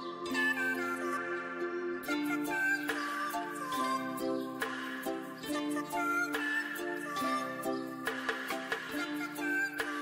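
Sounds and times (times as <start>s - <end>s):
plucked-string tune: 0.0s - 10.0s.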